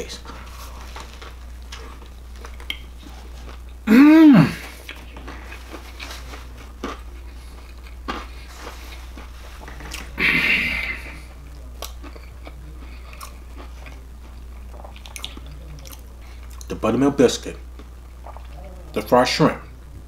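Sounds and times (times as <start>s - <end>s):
steady low hum: 0.0s - 20.0s
close-up chewing with crunches: 0.2s - 3.9s, 4.6s - 16.8s, 17.7s - 19.0s.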